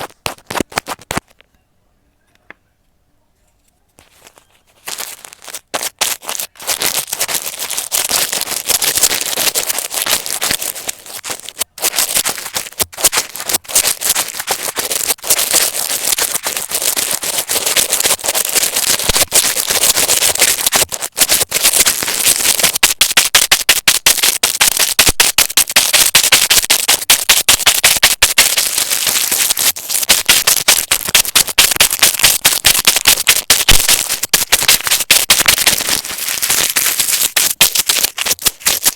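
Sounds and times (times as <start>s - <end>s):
needle poking crackling clicks: 4.0s - 38.9s.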